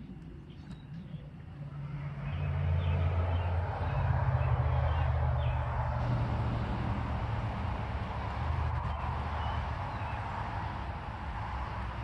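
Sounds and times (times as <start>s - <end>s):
vehicle engine running: 1.7s - 12.0s.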